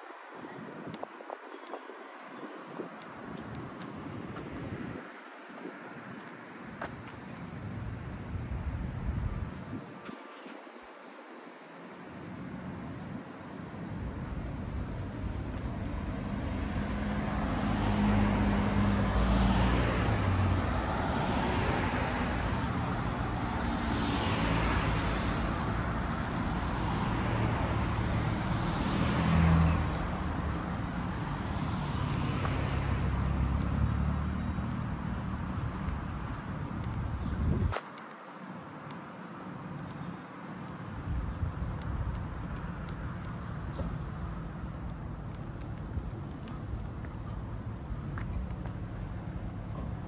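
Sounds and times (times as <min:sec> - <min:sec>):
cars passing with tyre swoosh: 0:00.0 - 0:50.0
low rumble of engines: 0:07.0 - 0:10.6, 0:12.2 - 0:37.8, 0:38.6 - 0:50.0.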